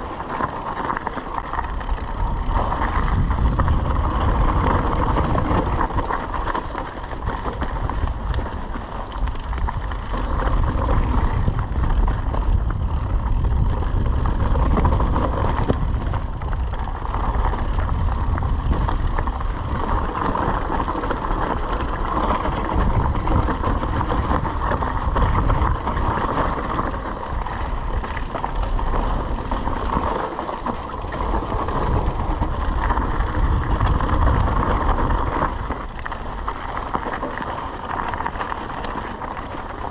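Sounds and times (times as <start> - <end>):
bike rattling over bumps: 0.0 - 39.9
tyre noise on loose dirt: 0.0 - 39.9
wind rumble on microphone: 0.0 - 39.9.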